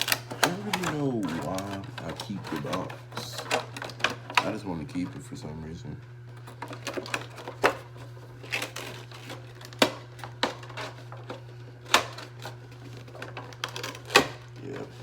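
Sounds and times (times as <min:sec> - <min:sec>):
packaging being handled: 0:00.0 - 0:05.3, 0:06.4 - 0:15.0
steady low hum: 0:00.0 - 0:15.0.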